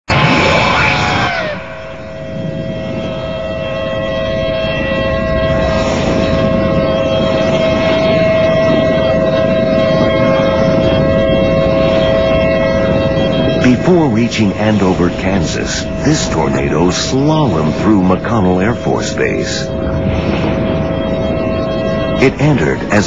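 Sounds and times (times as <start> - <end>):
low wind rumble: 0.1 - 23.0
tornado warning siren: 0.1 - 23.0.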